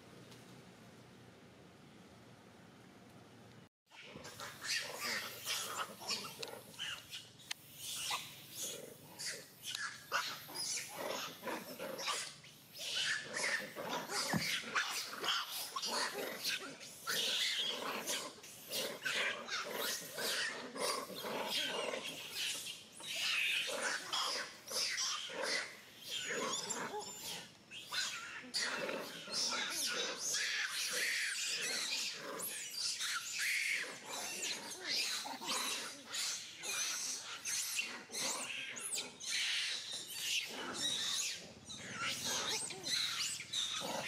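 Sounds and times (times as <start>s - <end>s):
young monkey screaming: 3.9s - 44.0s.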